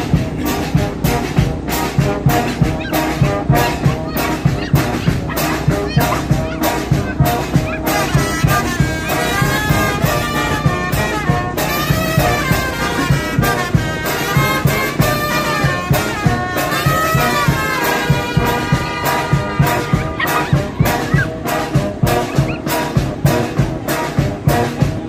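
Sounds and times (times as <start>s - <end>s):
brass-led music with steady beat: 0.0s - 25.0s.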